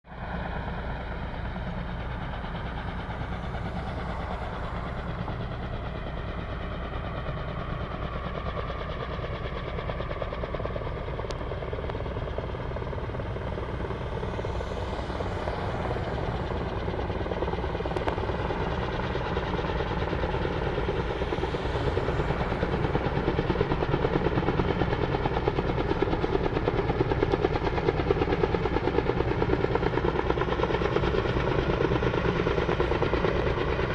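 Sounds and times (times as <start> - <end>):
helicopter rotor chopping: 0.1 - 33.9.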